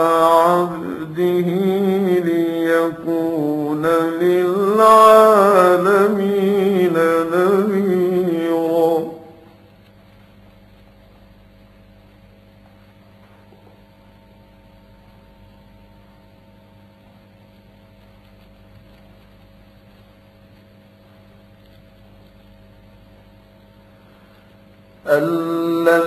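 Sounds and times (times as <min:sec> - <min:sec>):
faint hiss: 0:00.0 - 0:26.0
mains hum: 0:00.0 - 0:26.0.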